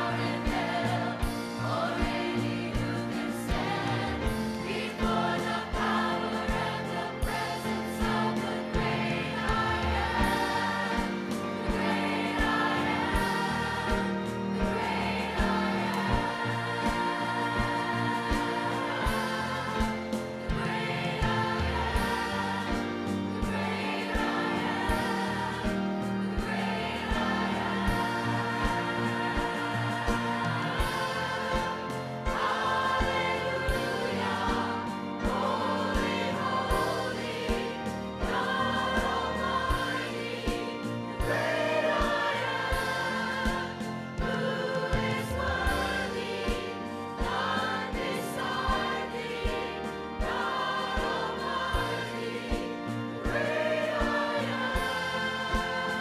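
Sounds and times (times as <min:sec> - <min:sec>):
choir singing gospel song: 0:00.0 - 0:56.0
instrumental accompaniment with beat: 0:00.0 - 0:56.0.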